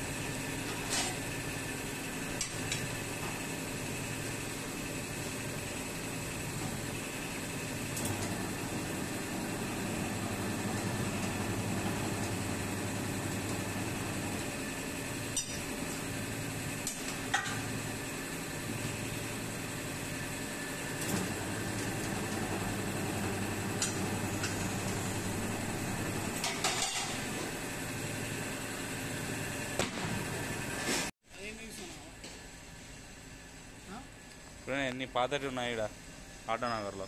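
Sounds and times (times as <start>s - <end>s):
tyre-changer machine humming: 0.0s - 30.9s.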